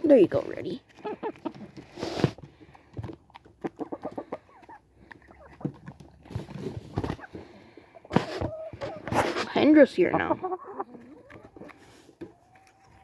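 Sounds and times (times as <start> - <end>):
chickens clucking: 0.1 - 13.0.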